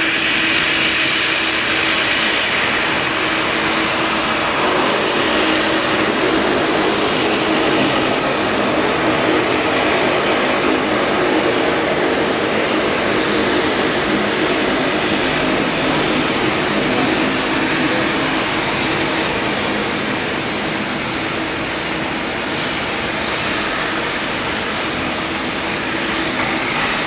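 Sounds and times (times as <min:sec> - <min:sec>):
airliner cabin engine noise: 0:00.0 - 0:27.0.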